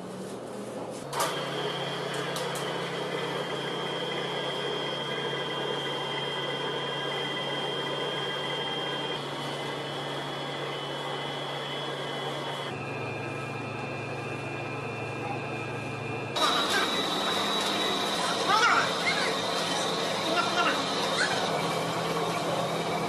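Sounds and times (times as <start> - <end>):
dough mixer motor humming: 1.2 - 23.0.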